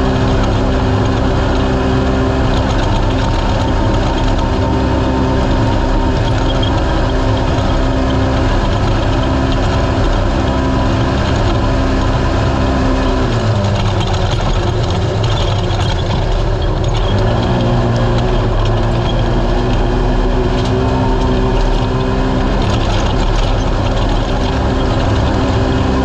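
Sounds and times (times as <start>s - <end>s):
race car engine running under load: 0.0s - 26.0s.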